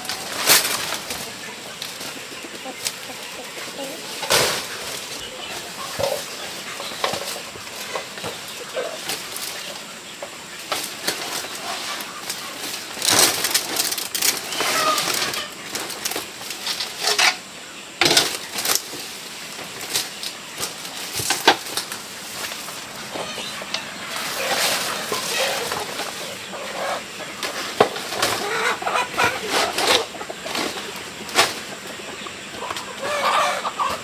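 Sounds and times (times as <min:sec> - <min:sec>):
chickens clucking softly: 0:00.0 - 0:34.0
rustling and scraping: 0:00.0 - 0:34.0.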